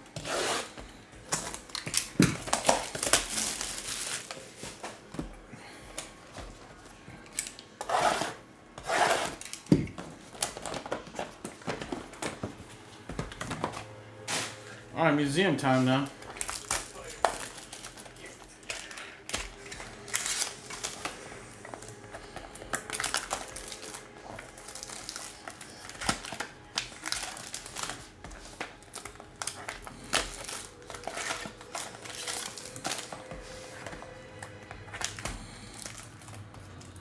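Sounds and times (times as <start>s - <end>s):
plastic wrapping crinkling and tearing: 0.2s - 5.1s, 9.0s - 12.6s, 15.6s - 37.0s.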